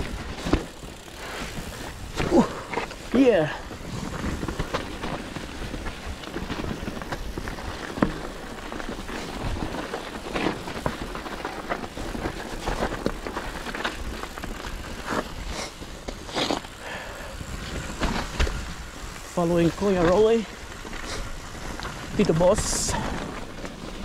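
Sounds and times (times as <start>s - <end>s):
bike rattling clicks and knocks: 0.0s - 24.0s
bike tyres rolling over dirt: 0.0s - 24.0s.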